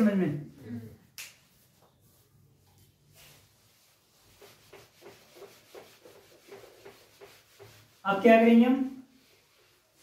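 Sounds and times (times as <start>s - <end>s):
eraser wiping a whiteboard: 1.5s - 10.0s.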